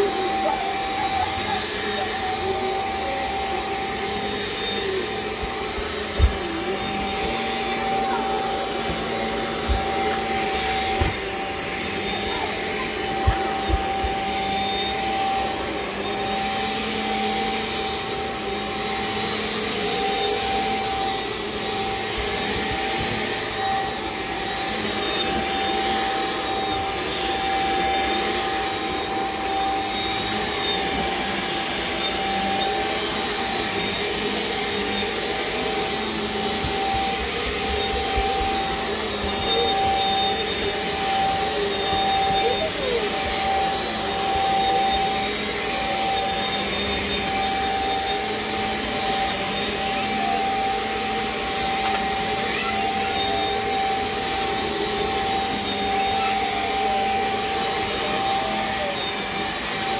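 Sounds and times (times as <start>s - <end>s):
stick vacuum whining drone: 0.0s - 59.9s.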